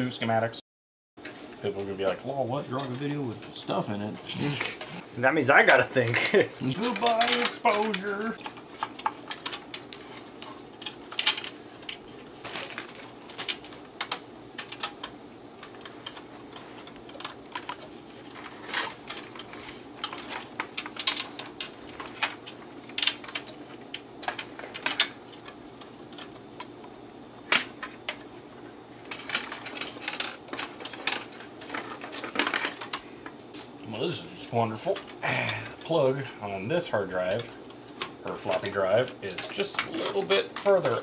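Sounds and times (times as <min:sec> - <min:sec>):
faint steady hum: 0:01.2 - 0:41.0.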